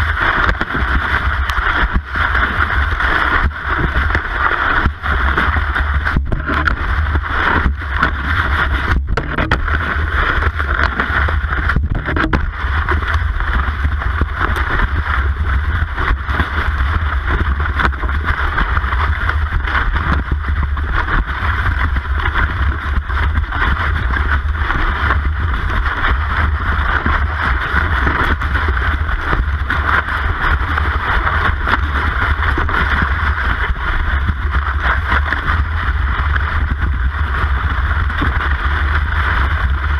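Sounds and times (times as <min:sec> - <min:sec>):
ski sliding on snow: 0:00.0 - 0:39.9
wind on microphone: 0:00.0 - 0:39.9.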